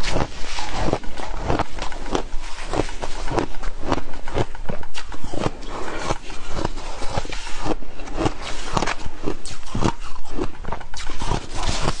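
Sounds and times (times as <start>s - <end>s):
chewing crunchy shaved ice: 0.0s - 12.0s.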